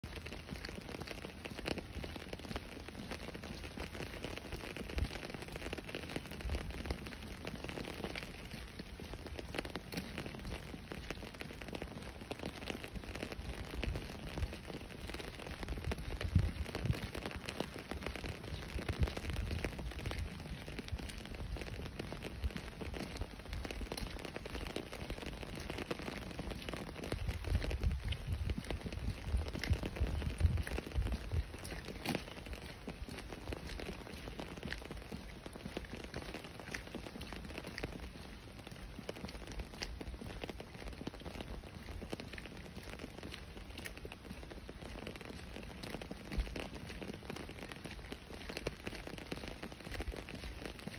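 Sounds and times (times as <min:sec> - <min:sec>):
rain on wet pavement: 0:00.0 - 0:50.9.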